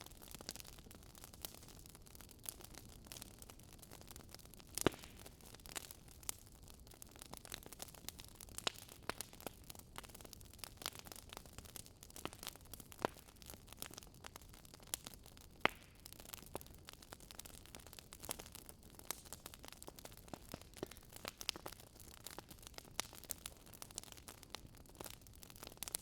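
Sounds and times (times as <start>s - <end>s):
fire popping: 0.0s - 26.0s
wood fire crackling: 0.0s - 26.0s.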